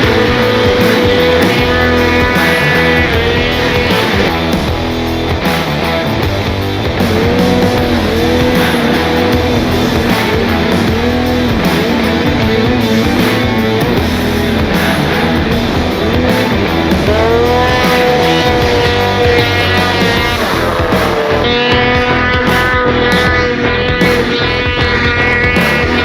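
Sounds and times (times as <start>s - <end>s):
rock music with guitar: 0.0s - 26.0s
snowmobile engine revving: 0.0s - 26.0s.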